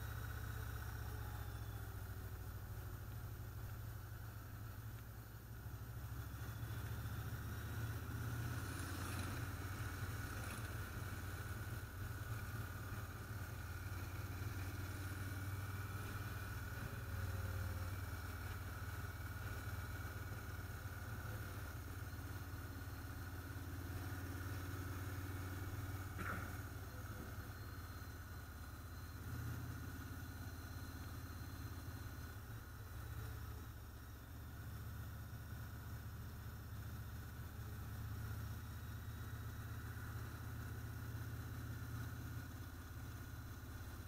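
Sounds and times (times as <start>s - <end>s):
motorcycle engine running: 0.0s - 44.0s
road and wind noise: 0.0s - 44.0s.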